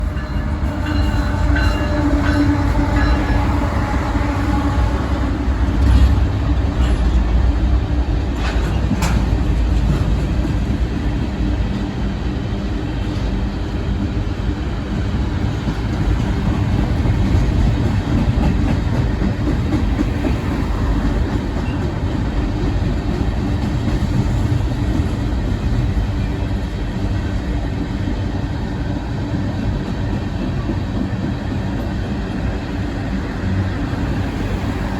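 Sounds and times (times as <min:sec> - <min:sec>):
freight train wheels rumbling on rail: 0:00.0 - 0:34.9.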